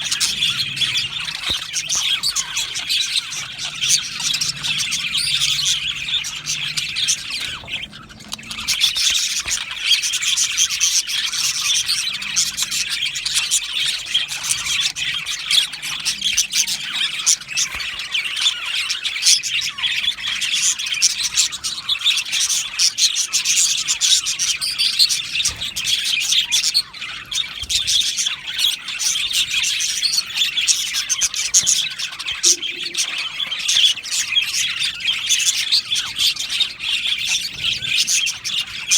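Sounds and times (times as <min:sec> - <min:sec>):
budgies chattering: 0:00.0 - 0:38.9.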